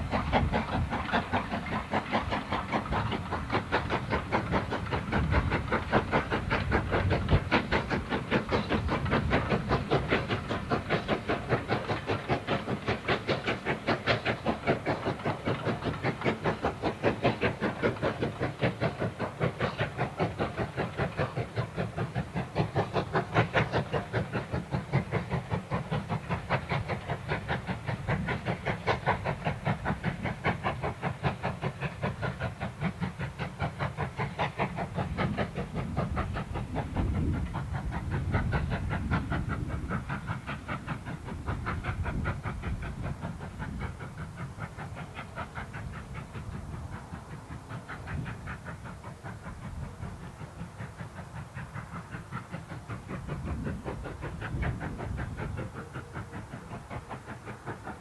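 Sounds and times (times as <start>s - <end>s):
steam locomotive exhaust beat: 0.0s - 58.0s
train rumbling on rails: 0.0s - 58.0s.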